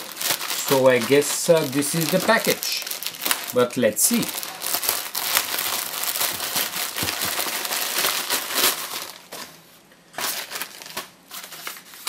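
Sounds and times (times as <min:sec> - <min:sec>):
padded envelopes rustling: 0:00.0 - 0:12.0
plastic mailer bag crinkling: 0:00.0 - 0:12.0.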